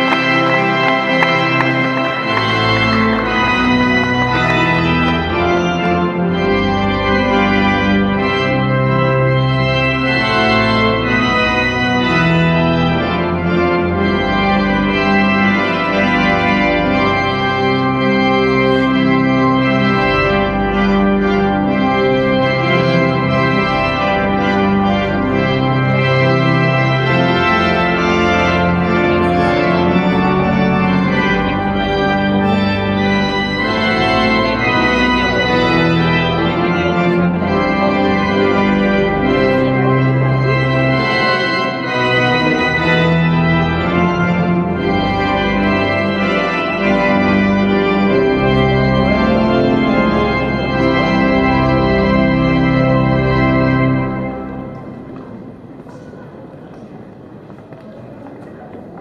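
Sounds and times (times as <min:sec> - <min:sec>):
church organ playing chords: 0:00.0 - 0:55.9.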